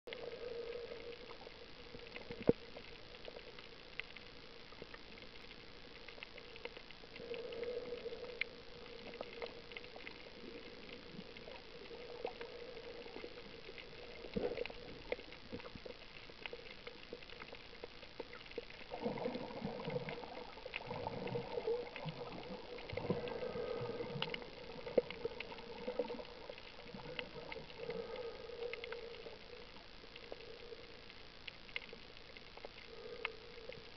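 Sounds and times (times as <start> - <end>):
muffled underwater hum: 0.1 - 33.9
sharp clicks and crackles: 0.1 - 33.9
water bubbling and gurgling: 0.1 - 33.9.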